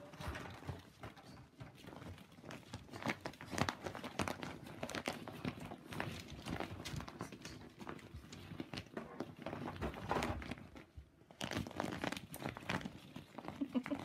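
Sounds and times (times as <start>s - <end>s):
plastic crinkling: 0.0s - 14.0s.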